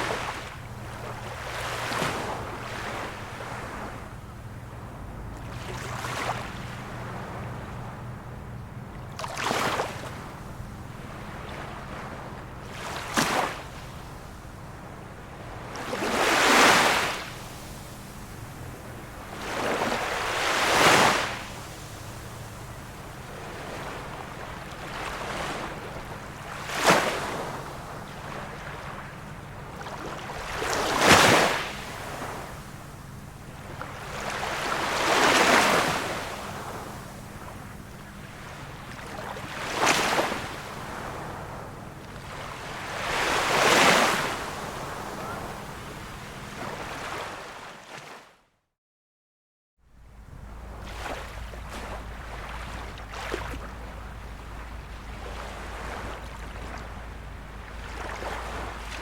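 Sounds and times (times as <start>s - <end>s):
small waves breaking on shore: 0.0s - 48.4s, 50.0s - 59.0s.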